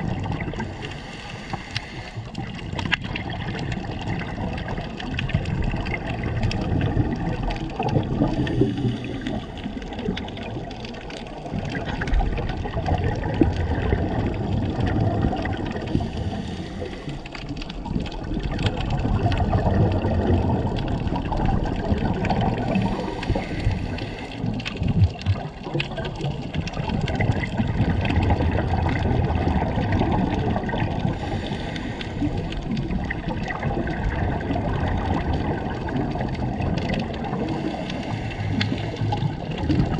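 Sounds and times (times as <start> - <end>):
muffled underwater water rushing: 0.0 - 39.9.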